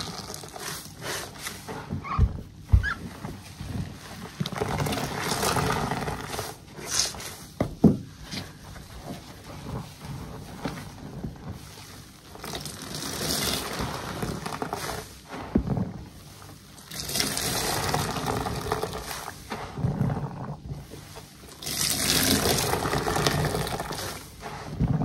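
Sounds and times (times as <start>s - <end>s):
sponges squelching in soapy water: 0.0s - 25.0s.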